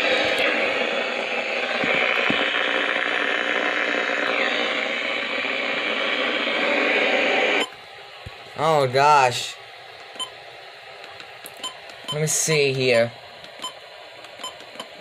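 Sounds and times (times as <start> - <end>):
radio static hiss with crackle: 0.0 - 15.0.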